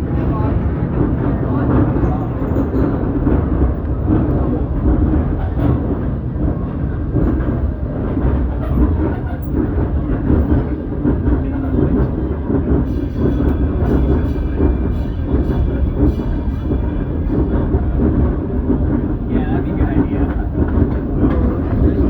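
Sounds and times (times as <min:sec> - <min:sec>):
train coaches rumbling and rattling: 0:00.0 - 0:22.0.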